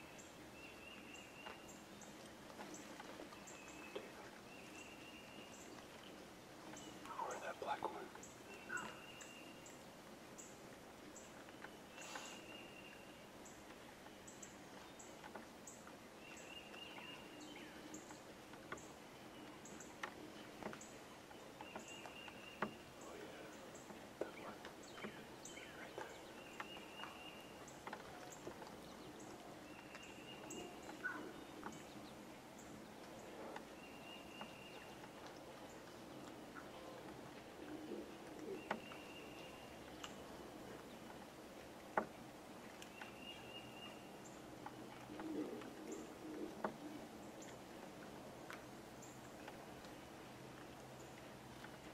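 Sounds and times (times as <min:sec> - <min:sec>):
soft clicks and rustles: 0:00.1 - 0:51.9.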